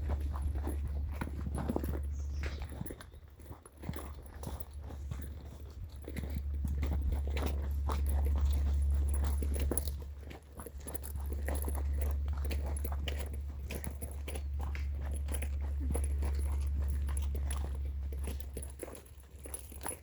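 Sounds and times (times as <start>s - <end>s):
wind rumble on microphone: 0.0s - 18.9s.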